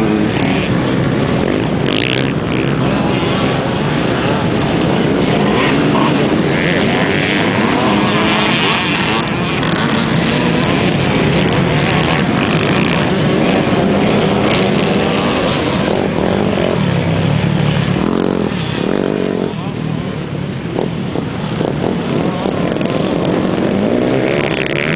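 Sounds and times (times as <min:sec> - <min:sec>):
off-road motorcycles racing: 0:00.0 - 0:24.9
single motorcycle engine deep roar: 0:00.0 - 0:24.9.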